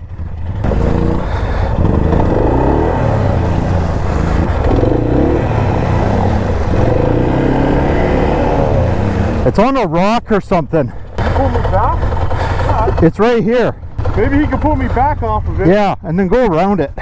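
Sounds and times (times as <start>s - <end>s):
quad engine revving: 0.0s - 17.0s.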